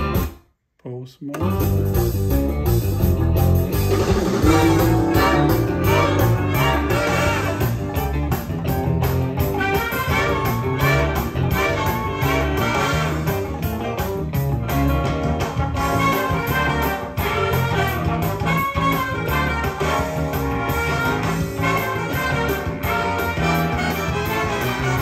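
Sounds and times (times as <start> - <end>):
music with steady beat: 0.0 - 0.4, 1.4 - 25.0.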